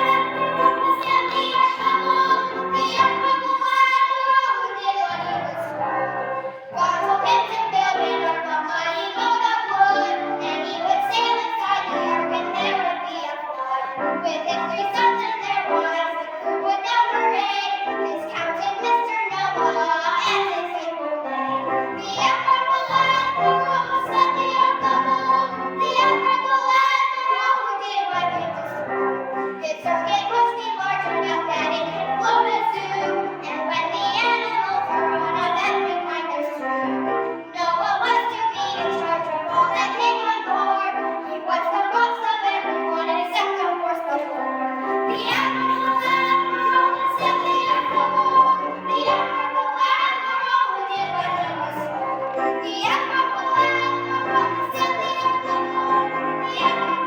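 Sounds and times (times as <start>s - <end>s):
children singing: 0.0s - 57.0s
musical accompaniment: 0.0s - 57.0s.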